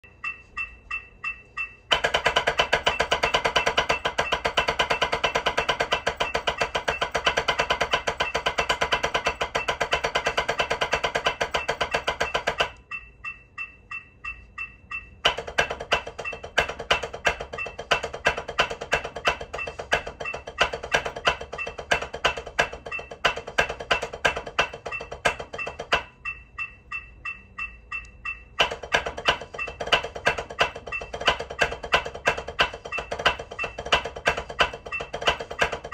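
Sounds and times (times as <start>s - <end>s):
metronome clicking: 0.0s - 35.9s.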